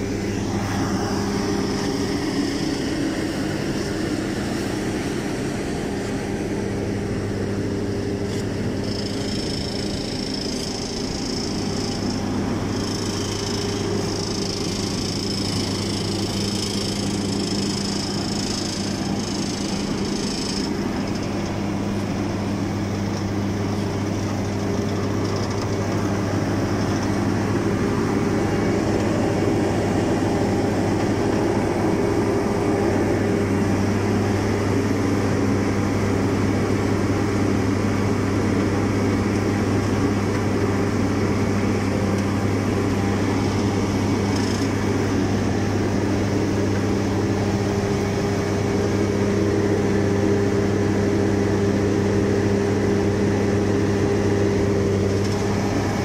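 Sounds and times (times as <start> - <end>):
paving machinery engine drone: 0.0 - 56.0.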